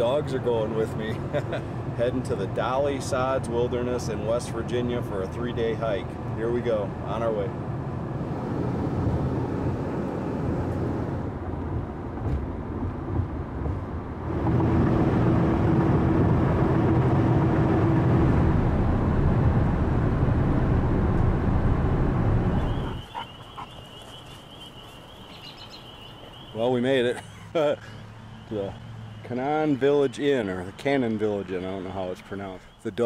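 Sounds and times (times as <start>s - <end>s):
car driving road noise: 0.0s - 33.0s.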